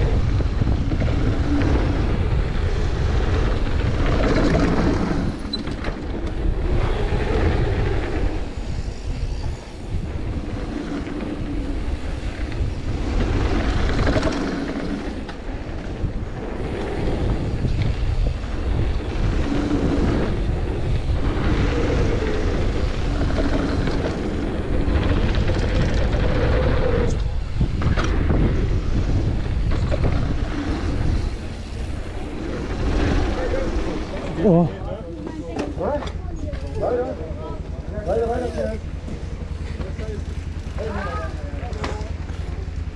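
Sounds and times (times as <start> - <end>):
knobby tyres rolling on dirt: 0.0 - 42.9
wind buffeting microphone: 0.0 - 42.9.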